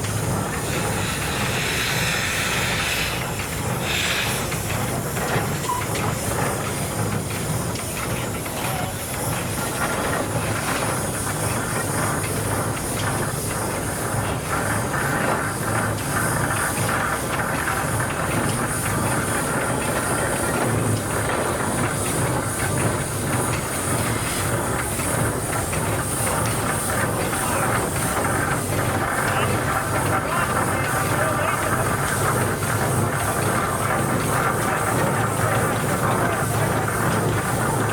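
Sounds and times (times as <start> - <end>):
hiss of steam: 0.0 - 37.9
steam engines running: 0.0 - 37.9.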